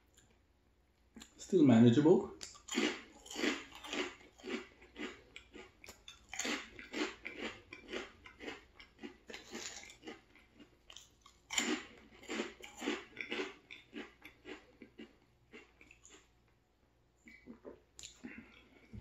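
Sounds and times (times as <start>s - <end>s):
chewing crunchy chips: 2.4s - 16.4s, 17.2s - 19.0s.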